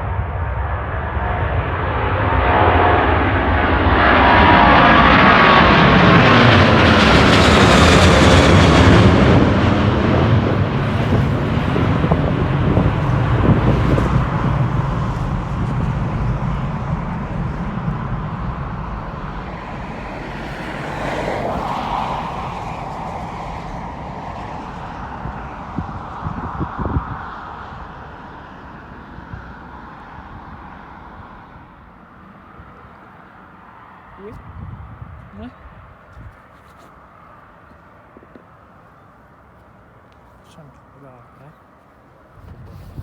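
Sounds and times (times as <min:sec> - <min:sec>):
jet airliner passing: 0:00.0 - 0:36.3.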